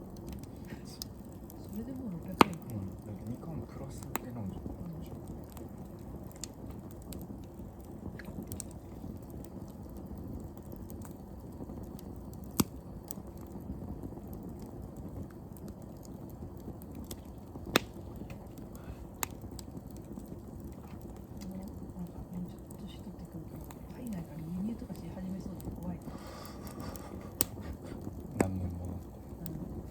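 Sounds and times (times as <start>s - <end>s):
flames rustling with crackles: 0.0s - 29.9s
loud fire pops: 0.0s - 29.9s.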